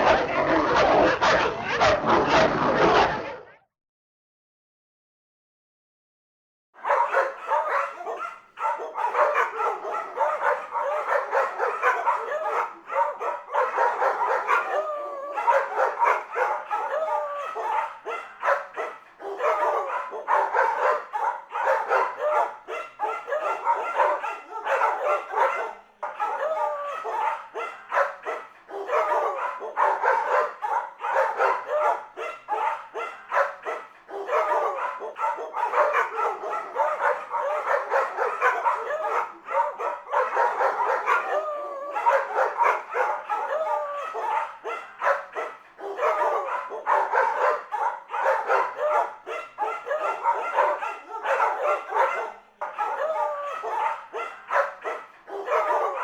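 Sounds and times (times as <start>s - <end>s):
dog barking and yipping: 6.8s - 56.0s.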